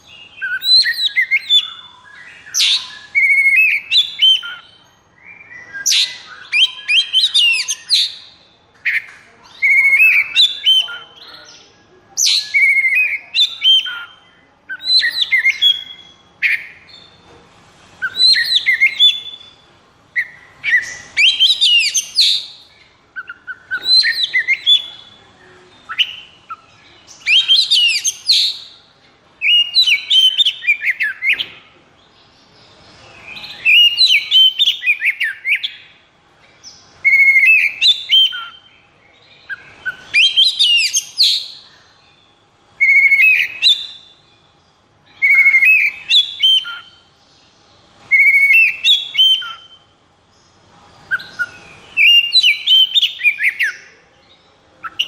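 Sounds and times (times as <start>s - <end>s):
songbird whistles and trills: 0.0s - 11.5s, 12.2s - 17.2s, 18.0s - 25.3s, 25.9s - 31.6s, 33.1s - 36.0s, 37.0s - 41.7s, 42.8s - 44.4s, 45.1s - 47.1s, 48.0s - 49.9s, 51.0s - 54.0s.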